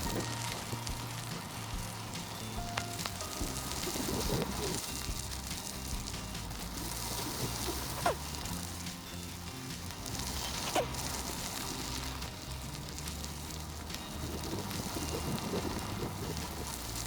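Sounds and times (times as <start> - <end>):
background music: 0.0 - 17.0
bicycle tyres crackling on trail: 0.0 - 17.0.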